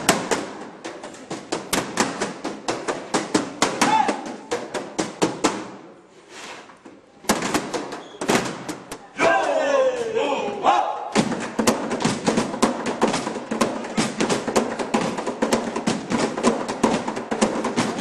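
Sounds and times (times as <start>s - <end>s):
plastic crates being struck: 0.0s - 6.0s, 7.2s - 9.6s, 11.1s - 18.0s.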